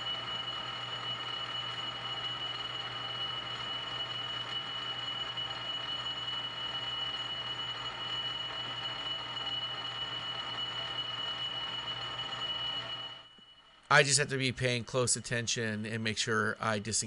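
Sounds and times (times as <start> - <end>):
lathe gear train whining: 0.0 - 13.9.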